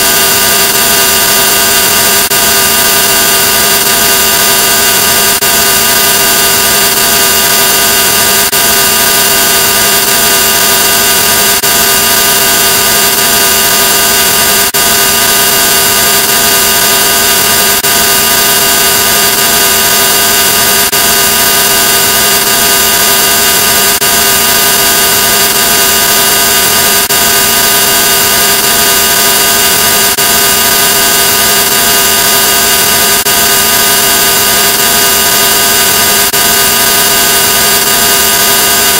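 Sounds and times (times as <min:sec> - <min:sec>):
buzzing noise: 0:00.0 - 0:38.9
harsh distorted drone: 0:00.0 - 0:38.9.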